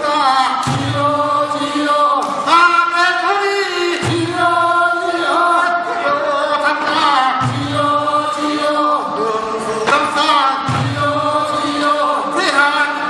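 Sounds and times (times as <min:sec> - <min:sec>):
men singing together: 0:00.0 - 0:13.0.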